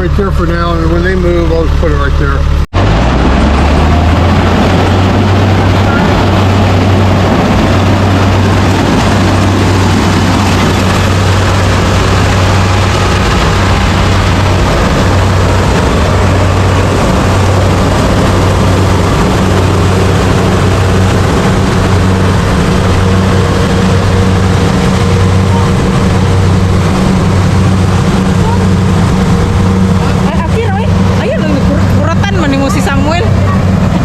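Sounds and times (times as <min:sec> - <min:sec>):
combine harvester engine hum: 0:00.0 - 0:34.0
dense rushing noise: 0:00.0 - 0:34.0.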